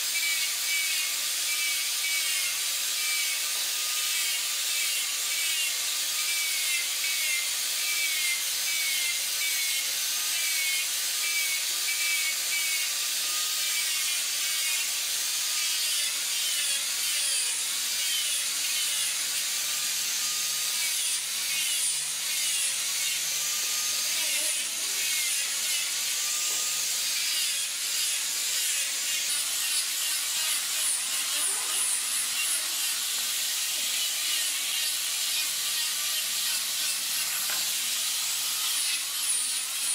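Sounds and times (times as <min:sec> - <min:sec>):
angle grinder sanding wood: 0:00.0 - 0:39.9.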